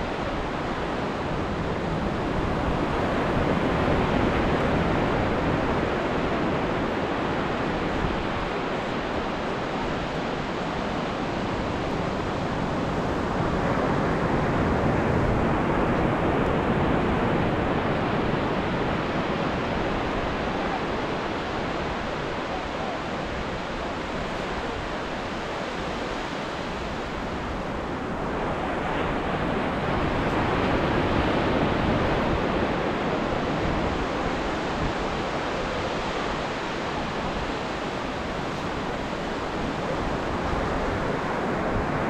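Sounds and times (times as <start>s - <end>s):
waves breaking and washing ashore: 0.0s - 42.0s.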